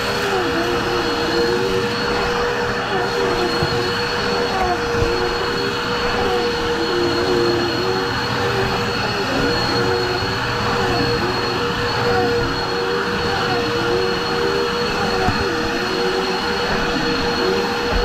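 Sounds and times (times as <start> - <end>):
vacuum cleaners running: 0.0 - 18.0.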